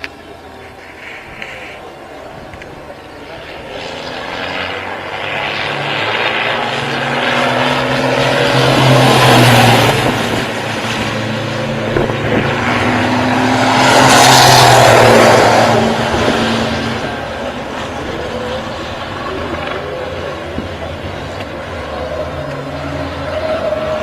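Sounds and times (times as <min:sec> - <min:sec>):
racing car engines passing by: 0:00.0 - 0:24.0.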